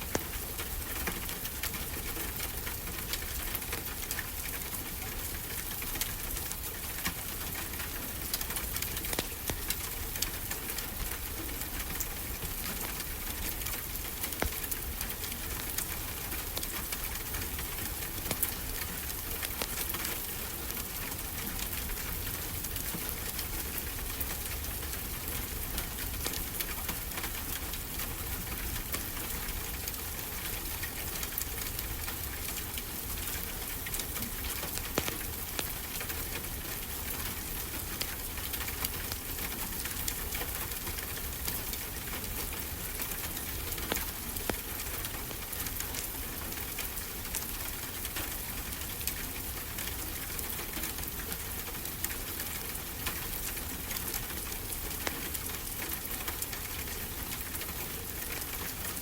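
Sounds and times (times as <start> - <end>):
wood fire crackling: 0.1 - 51.1.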